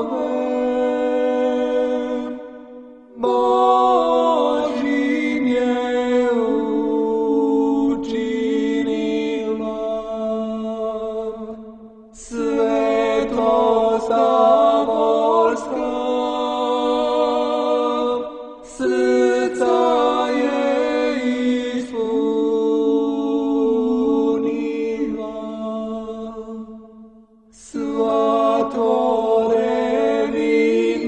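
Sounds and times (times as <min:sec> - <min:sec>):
unaccompanied choral chant: 0:00.0 - 0:31.0.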